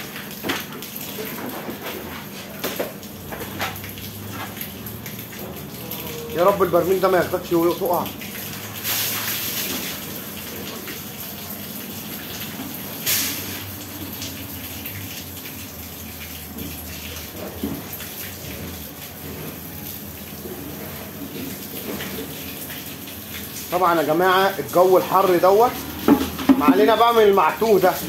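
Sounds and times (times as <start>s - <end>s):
water splashing: 0.0s - 28.0s
running water rushing: 1.0s - 28.0s.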